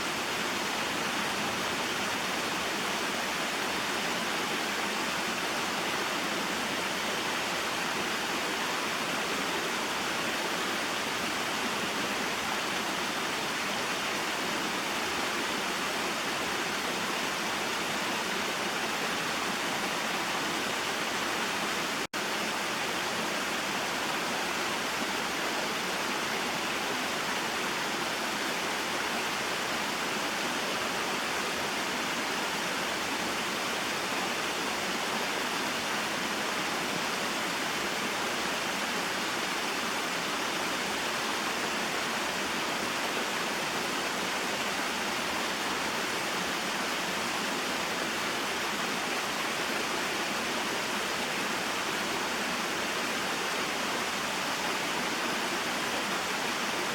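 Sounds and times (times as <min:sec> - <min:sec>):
waterfall and stream rushing: 0:00.0 - 0:56.9.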